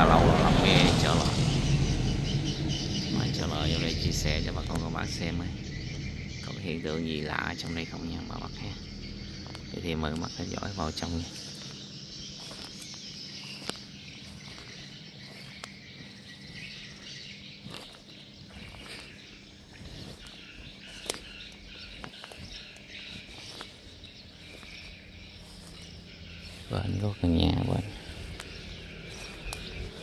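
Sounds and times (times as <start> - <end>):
birds calling: 0.0 - 30.0
insects chirping: 0.0 - 30.0.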